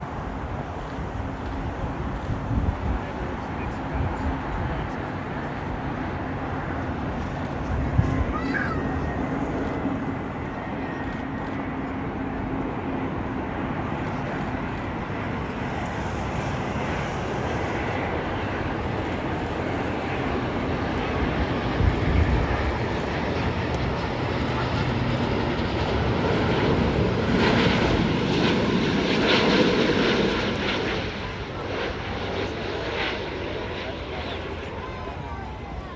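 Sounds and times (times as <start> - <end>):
jet airliner rumble: 0.0 - 35.9.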